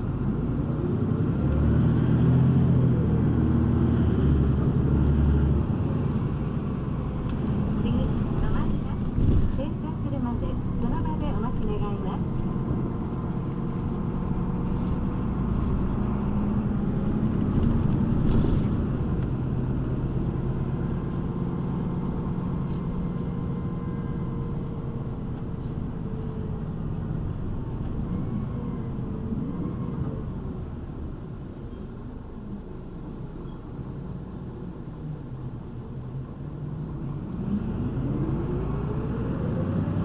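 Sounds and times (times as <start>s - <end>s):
bus engine and road noise: 0.0s - 40.0s.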